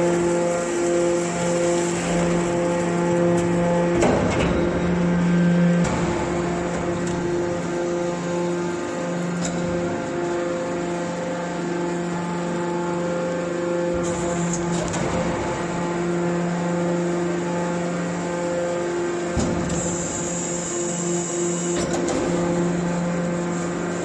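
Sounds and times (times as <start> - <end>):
hydraulic baler machine hum: 0.0 - 24.0.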